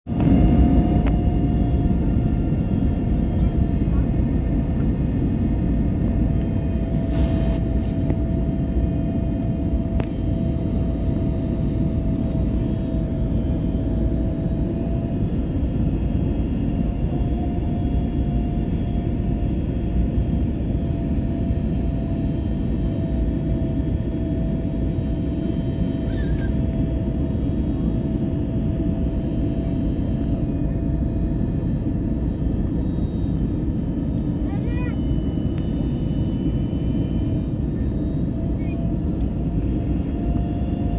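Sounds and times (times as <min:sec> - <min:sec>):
airliner cabin engine rumble: 0:00.1 - 0:40.9
steady whine: 0:00.1 - 0:40.9.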